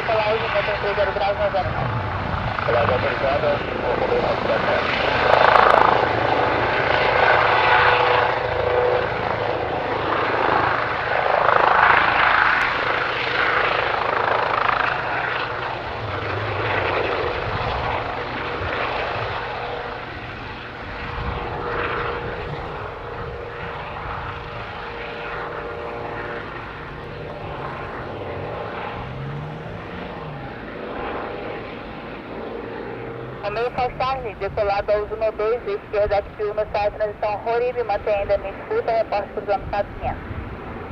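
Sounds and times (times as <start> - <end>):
helicopter taking off: 0.0 - 40.9.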